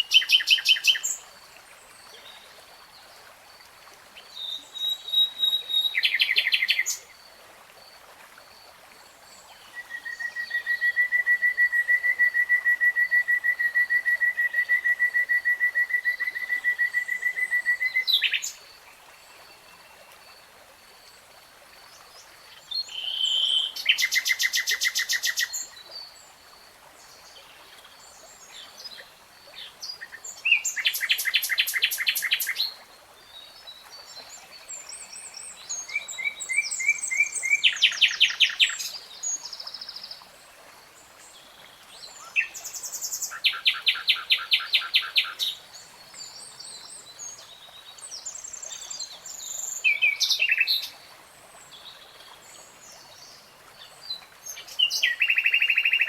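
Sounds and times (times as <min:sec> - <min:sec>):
songbird singing: 0:04.2 - 0:07.1, 0:09.4 - 0:20.1, 0:22.6 - 0:26.2, 0:27.1 - 0:40.3, 0:41.3 - 0:56.0.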